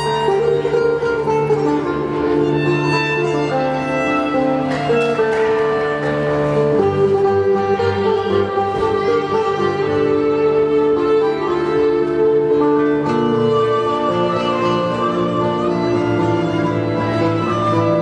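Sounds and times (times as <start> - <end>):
instrumental music: 0.0 - 18.0.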